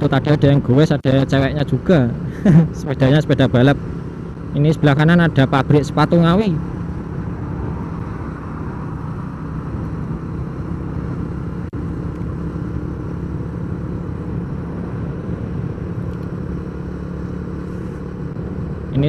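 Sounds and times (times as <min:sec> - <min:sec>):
road and wind noise: 0:00.0 - 0:19.0
vehicle engine drone: 0:00.0 - 0:19.0.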